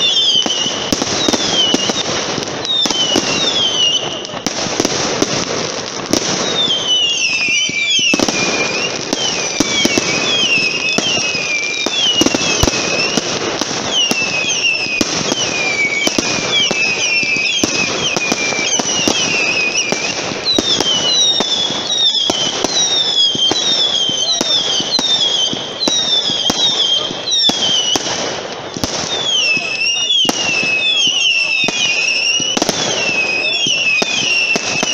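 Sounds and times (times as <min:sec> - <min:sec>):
fireworks cracks and pops: 0:00.0 - 0:34.9
fireworks whistling: 0:00.0 - 0:34.9.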